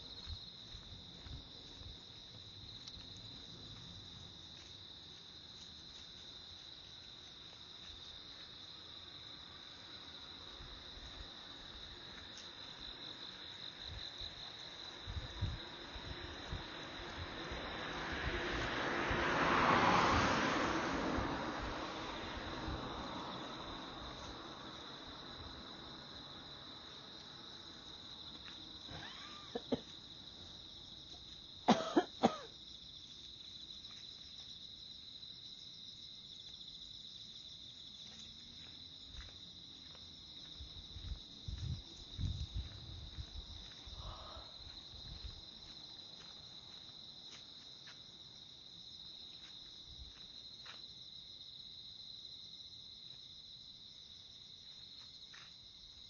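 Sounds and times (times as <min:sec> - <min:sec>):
insects chirring: 0:00.0 - 0:18.8, 0:21.7 - 0:56.0.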